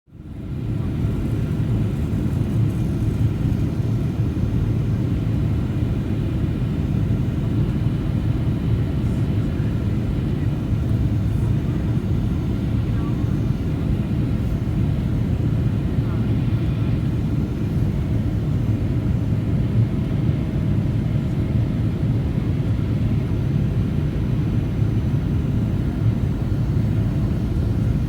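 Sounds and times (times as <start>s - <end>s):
airplane cabin drone: 0.2s - 28.0s.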